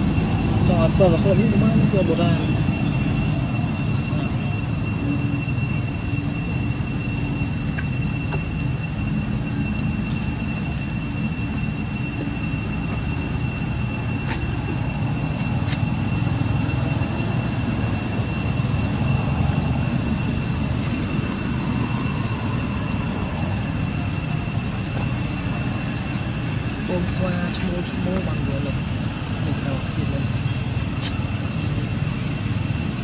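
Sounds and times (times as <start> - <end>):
cicadas droning: 0.0 - 33.0.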